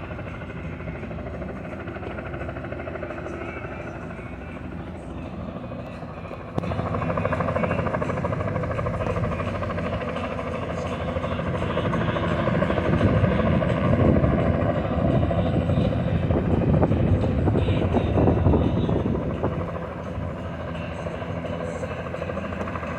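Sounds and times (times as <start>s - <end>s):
helicopter rotor beating: 0.0s - 22.9s.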